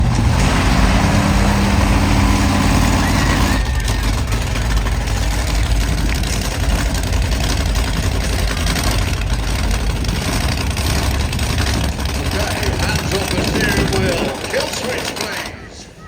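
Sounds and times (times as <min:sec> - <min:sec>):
truck engine running loud: 0:00.0 - 0:16.0.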